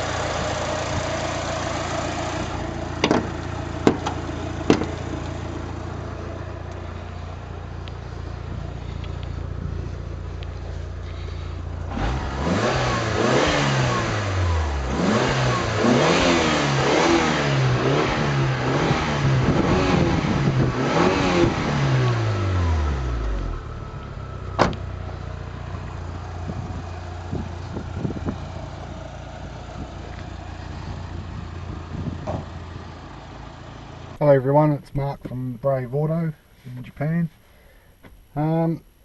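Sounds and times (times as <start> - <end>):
car engine revving: 0.0 - 34.2
engine idling: 0.0 - 39.0.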